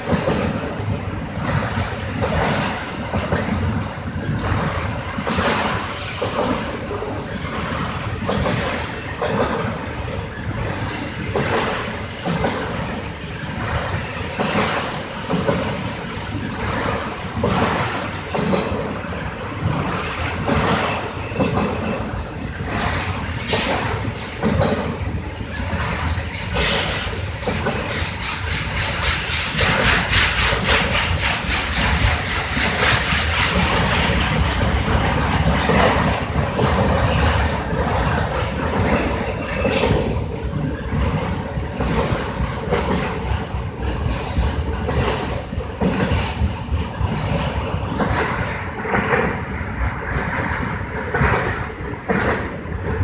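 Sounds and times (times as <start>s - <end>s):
train cars clanking and rattling: 0.0s - 53.0s
train wheels rumbling on rails: 0.0s - 53.0s.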